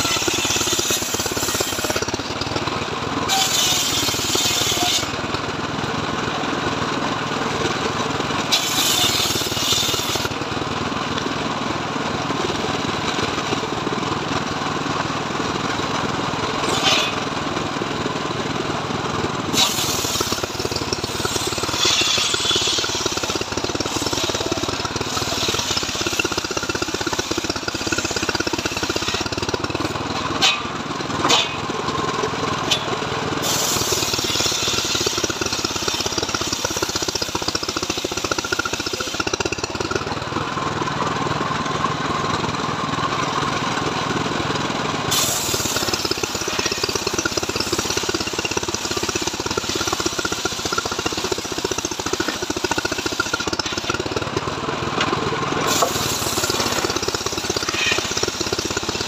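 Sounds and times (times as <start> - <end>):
circular sawmill cutting log: 0.0 - 59.0.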